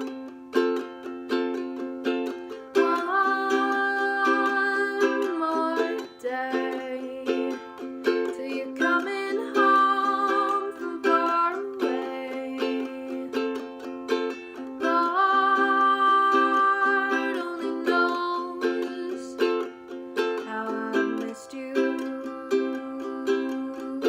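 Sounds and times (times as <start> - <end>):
woman singing: 0.0 - 0.6, 2.3 - 24.0
strummed acoustic string instrument: 0.0 - 24.0.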